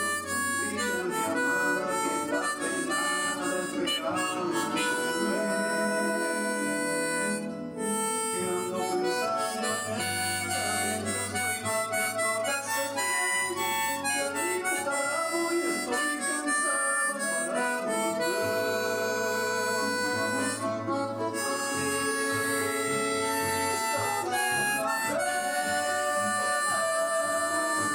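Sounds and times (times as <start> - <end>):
harmonica melody: 0.0 - 27.9.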